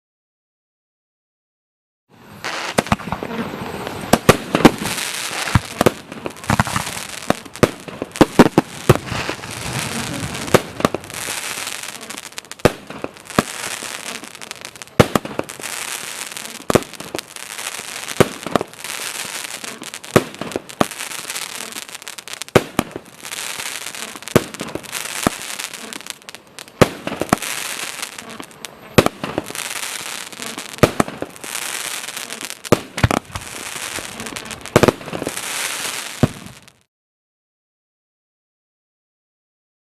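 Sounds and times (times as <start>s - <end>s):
fireworks bangs: 2.2s - 36.9s
fireworks crackling: 2.2s - 36.9s.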